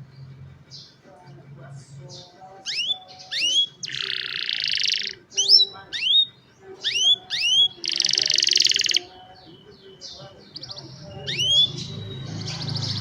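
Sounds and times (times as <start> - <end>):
canary singing trills and whistles: 0.0 - 13.0.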